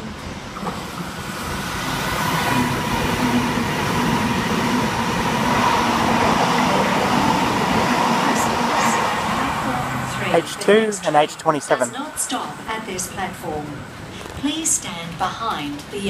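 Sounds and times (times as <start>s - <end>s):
electric train passing at speed: 0.0s - 16.0s
faint train whine: 0.0s - 16.0s.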